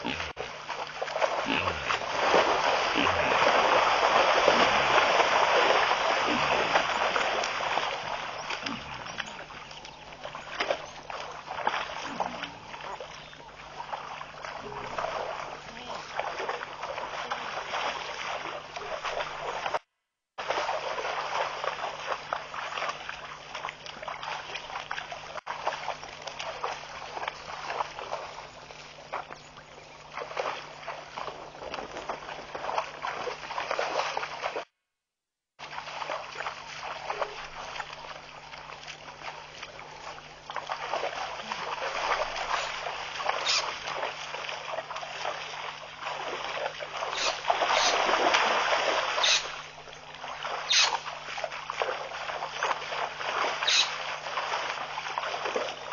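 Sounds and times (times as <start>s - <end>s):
water splashing and sloshing: 0.0s - 34.7s, 35.6s - 55.9s.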